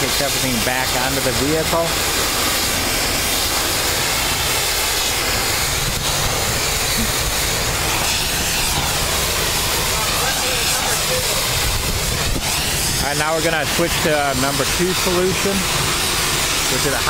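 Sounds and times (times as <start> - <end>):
engine droning: 0.0 - 17.0
pressure washer spray hissing: 0.0 - 17.0.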